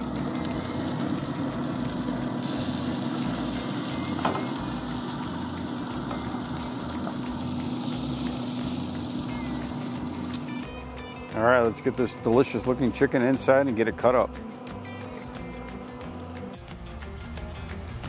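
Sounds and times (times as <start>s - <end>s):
pellet grill humming: 0.0s - 18.0s.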